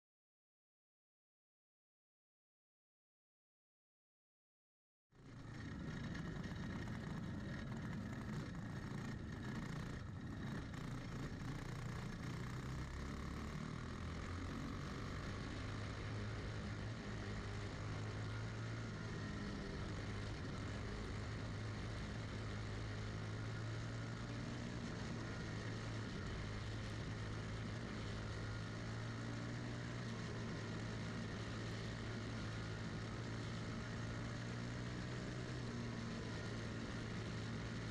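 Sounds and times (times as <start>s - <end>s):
kart engine running steadily: 5.2s - 37.9s.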